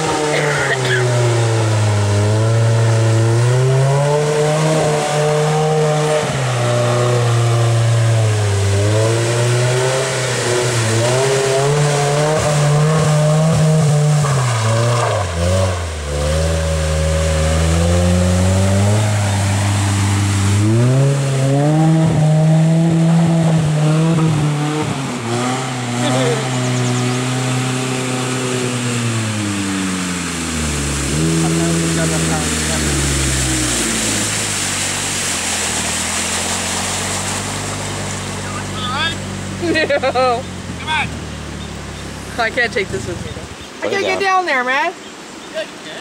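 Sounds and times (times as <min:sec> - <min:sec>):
engine revving: 0:00.0 - 0:44.4.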